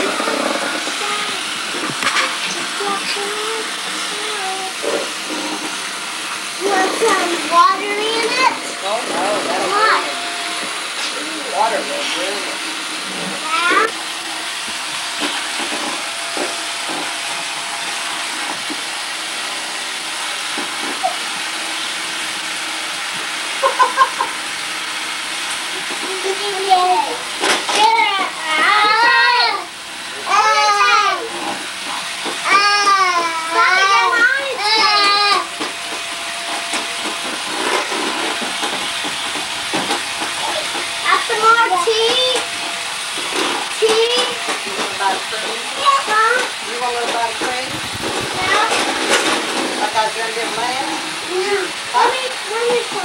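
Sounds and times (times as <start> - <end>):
electric hand mixer whipping cream: 0.0 - 53.0.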